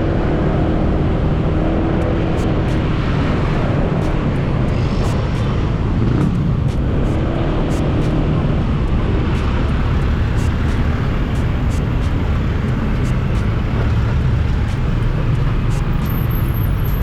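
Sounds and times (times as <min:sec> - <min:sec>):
motorcycle engine running: 0:00.0 - 0:16.9
wind rushing over microphone: 0:00.0 - 0:17.0.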